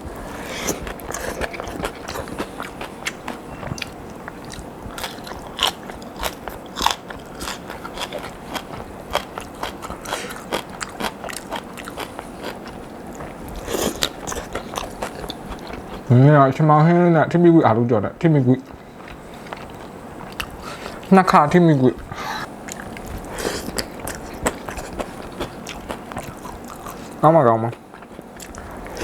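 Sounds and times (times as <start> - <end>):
crunchy snack being chewed: 0.5 - 16.1, 18.7 - 21.1, 22.1 - 29.0.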